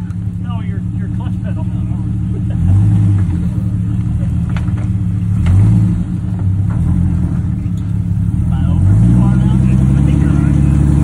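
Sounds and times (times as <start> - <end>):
vehicle engine revving under load: 0.0 - 11.0.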